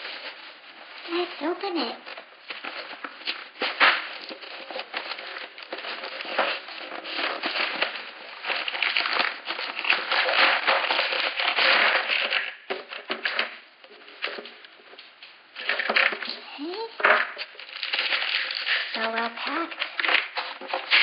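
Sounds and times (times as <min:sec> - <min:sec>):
plastic and cardboard crinkling: 0:00.0 - 0:21.0.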